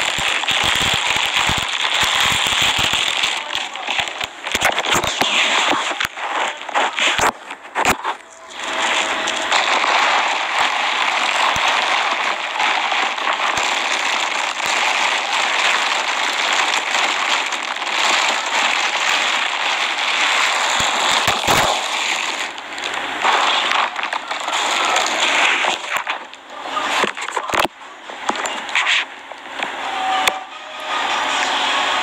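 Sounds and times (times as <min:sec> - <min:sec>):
plastic and paper crinkling: 0:00.0 - 0:29.8.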